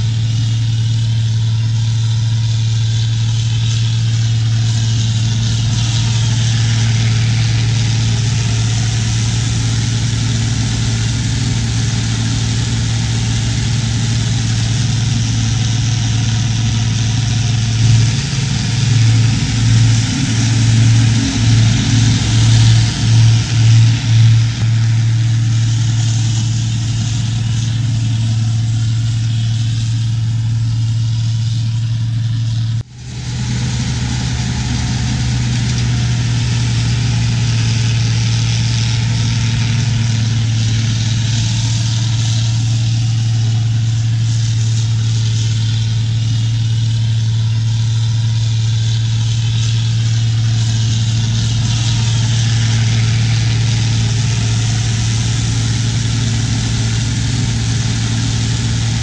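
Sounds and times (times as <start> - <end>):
tractor and forage harvester running: 0.0 - 59.0.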